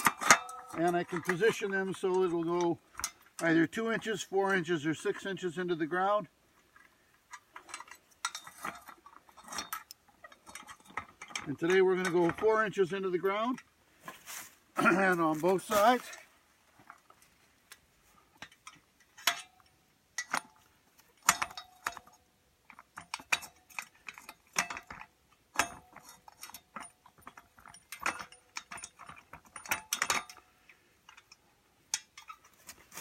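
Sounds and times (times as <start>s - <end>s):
metallic clicks and clanks: 0.0s - 13.7s, 14.8s - 33.0s.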